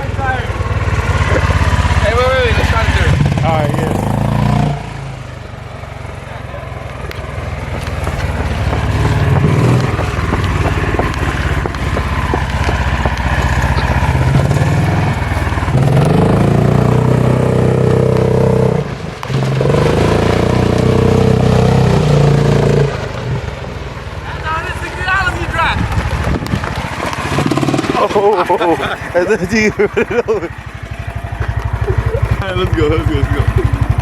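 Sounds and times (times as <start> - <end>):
golf cart engine at full throttle: 0.0 - 34.0.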